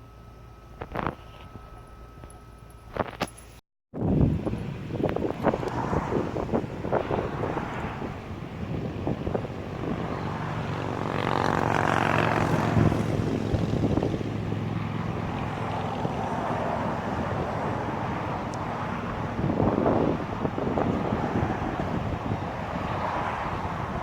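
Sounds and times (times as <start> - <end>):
engine running: 0.0 - 24.0
wind noise on microphone: 3.9 - 24.0.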